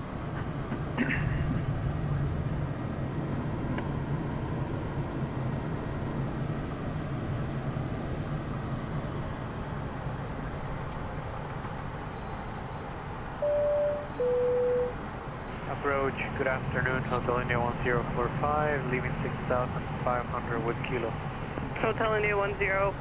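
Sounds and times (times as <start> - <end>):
aircraft cockpit noise: 0.0 - 23.0.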